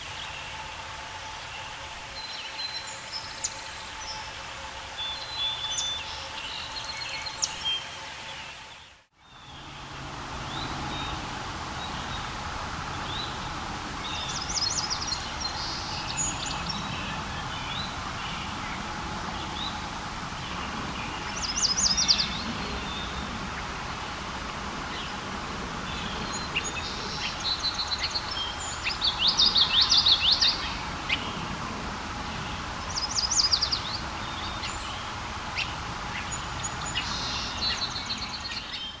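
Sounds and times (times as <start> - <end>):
other birds singing: 0.0 - 39.0
steady background hiss: 0.0 - 39.0
warbler singing: 0.0 - 39.0.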